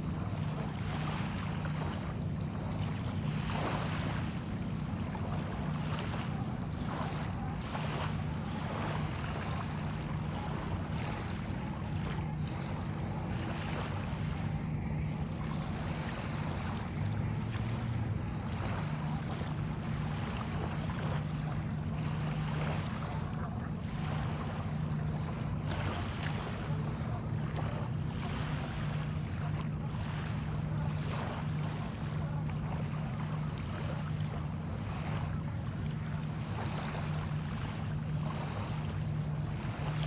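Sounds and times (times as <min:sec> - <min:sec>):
steady low hum: 0:00.0 - 0:40.0
wind: 0:00.0 - 0:40.0.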